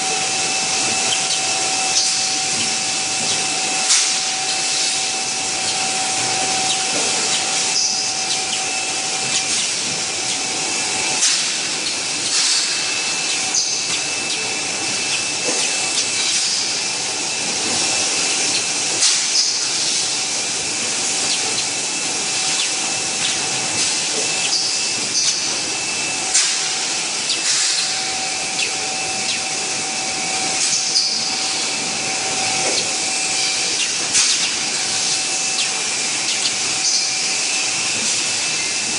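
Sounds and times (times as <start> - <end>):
machine whine: 0.0 - 38.9
packing machinery running: 0.0 - 38.9.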